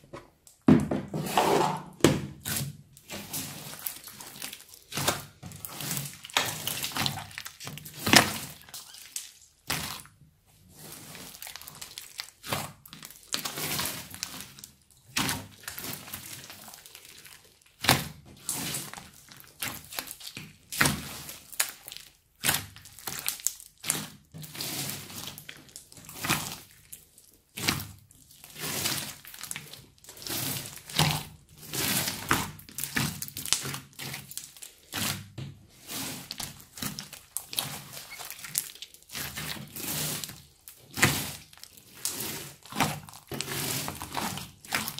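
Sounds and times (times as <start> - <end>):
slime squelching and popping: 1.9 - 44.9.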